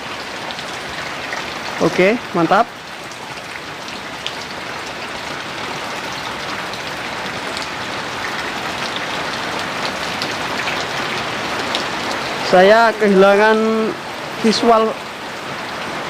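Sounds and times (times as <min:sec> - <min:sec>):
raindrops ticking: 0:00.0 - 0:15.9
rain falling steadily: 0:00.0 - 0:16.0.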